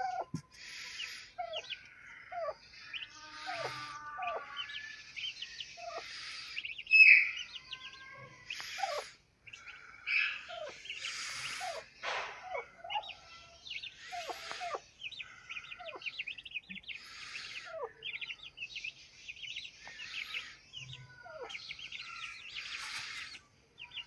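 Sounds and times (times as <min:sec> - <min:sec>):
caged birds chirping and calling: 0:00.0 - 0:24.0.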